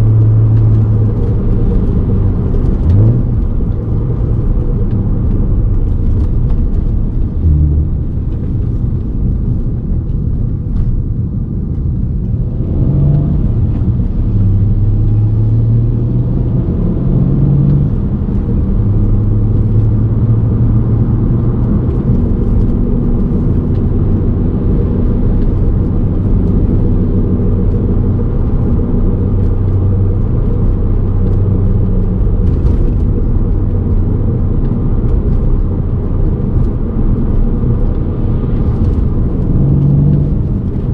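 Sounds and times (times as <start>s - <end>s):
car interior road and engine rumble: 0.0s - 40.9s.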